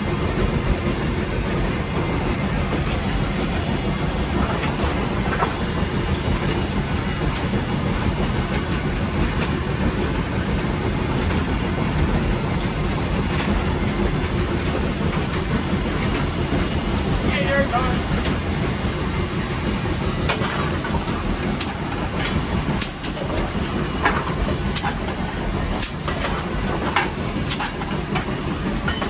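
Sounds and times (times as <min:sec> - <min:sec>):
steam locomotive running: 0:00.0 - 0:29.0.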